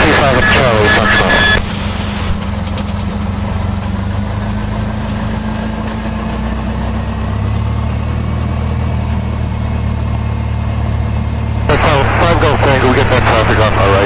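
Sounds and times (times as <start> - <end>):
propeller plane engine from cabin: 0.0 - 14.0.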